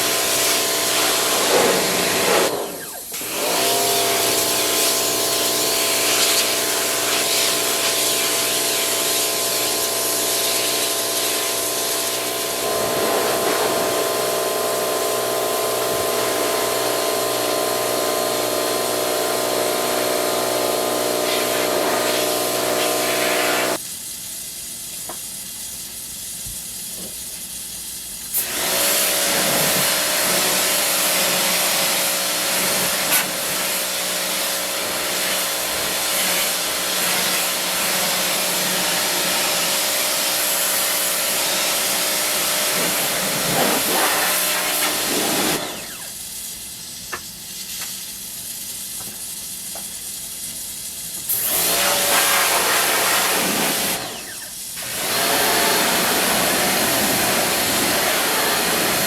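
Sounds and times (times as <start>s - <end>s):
pressure washer spraying: 0.0s - 23.8s, 28.3s - 59.0s.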